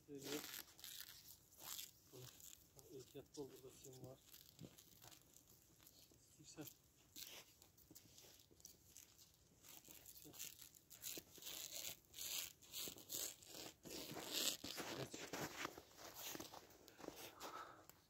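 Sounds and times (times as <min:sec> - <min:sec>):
stretch wrap film crackling: 0:00.0 - 0:18.0.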